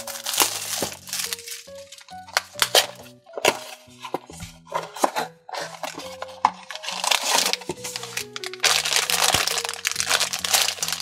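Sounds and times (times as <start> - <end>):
foil bag crinkling: 0.0 - 4.0, 5.7 - 11.0
background music: 0.0 - 11.0.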